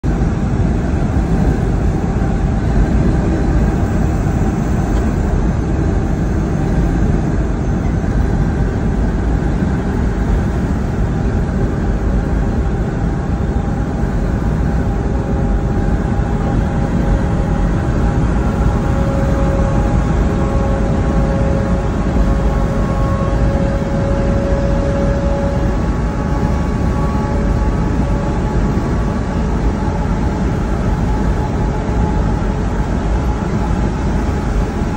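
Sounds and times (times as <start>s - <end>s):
diesel truck engine and tyres: 0.0s - 34.9s.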